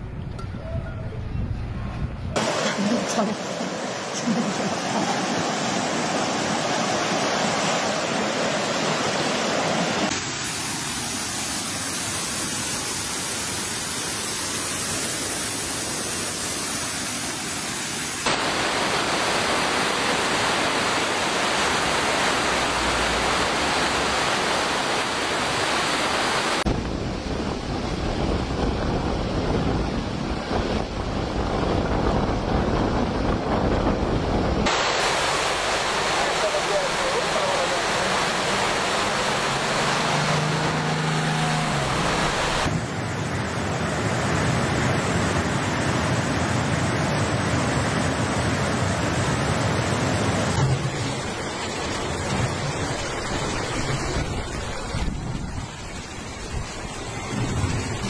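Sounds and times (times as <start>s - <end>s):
floodwater rushing: 2.3s - 58.0s.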